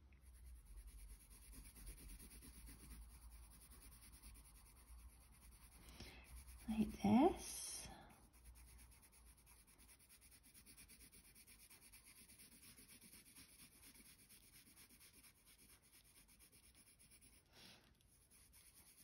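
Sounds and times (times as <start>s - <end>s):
pencil shading on paper: 0.2s - 19.0s.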